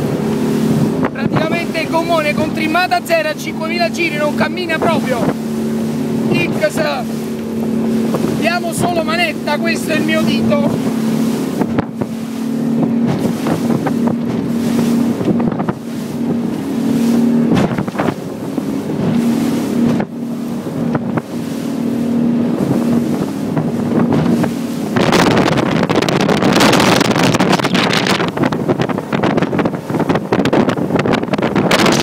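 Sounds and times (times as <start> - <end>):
outboard motors droning: 0.0 - 32.0
rushing water: 0.0 - 32.0
wind blasting microphone: 0.0 - 32.0.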